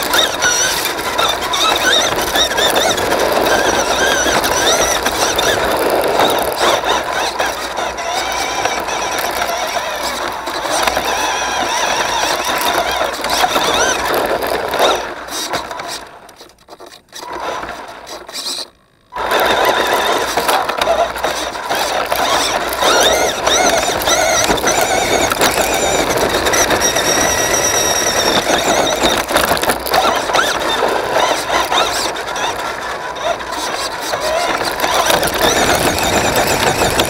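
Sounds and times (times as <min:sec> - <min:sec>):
toy truck electric motor whining: 0:00.0 - 0:37.0.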